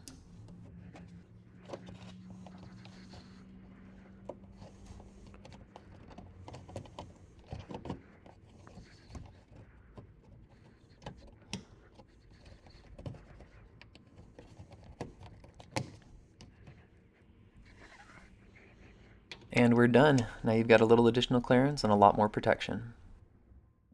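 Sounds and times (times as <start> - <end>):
plastic rubbing on plastic: 0.0 - 19.3.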